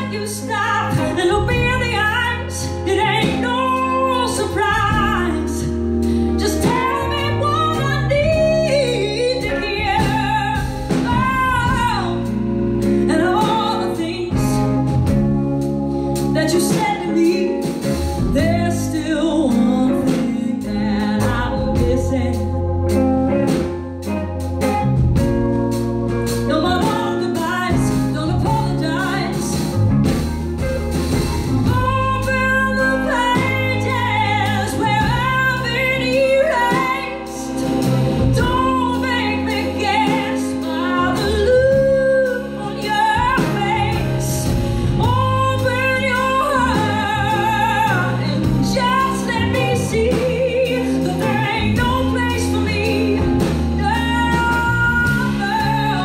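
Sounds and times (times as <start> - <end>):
live band playing: 0.0 - 56.0
woman singing soul ballad: 0.0 - 56.0.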